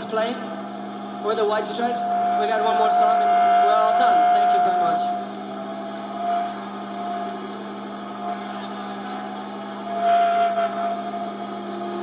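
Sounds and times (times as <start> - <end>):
sustained electric guitar tone: 2.0 - 12.0.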